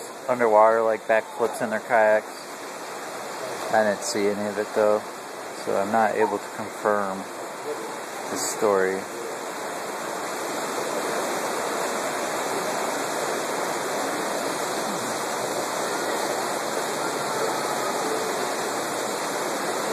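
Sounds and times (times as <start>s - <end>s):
river rushing over rapids: 0.0s - 19.9s.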